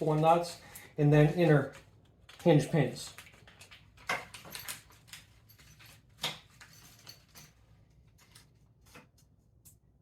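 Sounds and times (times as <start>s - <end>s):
small parts clicking and rustling: 0.1s - 9.8s.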